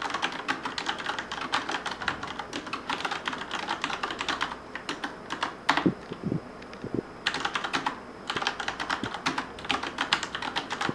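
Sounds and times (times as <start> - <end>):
mechanical keyboard clacking: 0.0 - 5.8, 7.3 - 10.9.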